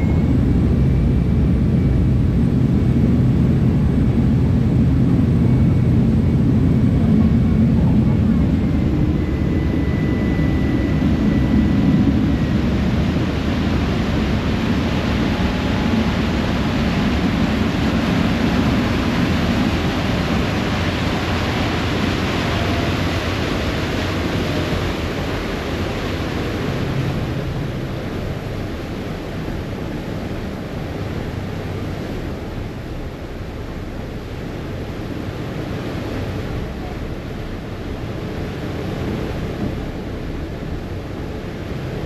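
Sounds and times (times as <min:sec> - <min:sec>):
churning wake rushing: 0:00.0 - 0:42.0
ferry engine rumble: 0:00.0 - 0:42.0.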